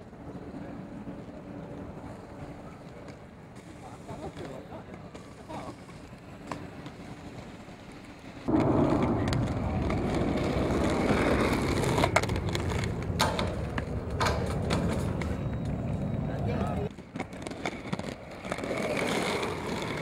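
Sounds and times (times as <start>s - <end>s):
skate wheels rolling on pavement: 0.0s - 20.0s.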